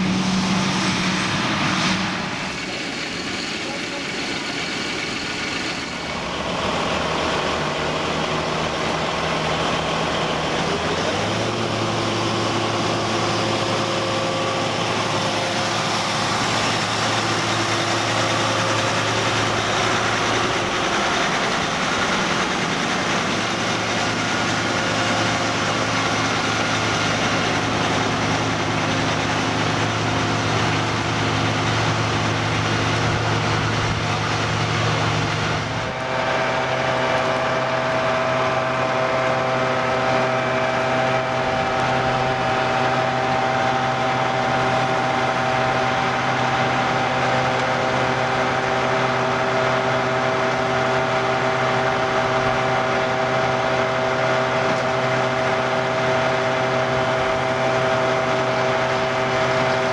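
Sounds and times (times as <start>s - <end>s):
deep diesel engine hum: 0.0s - 59.9s.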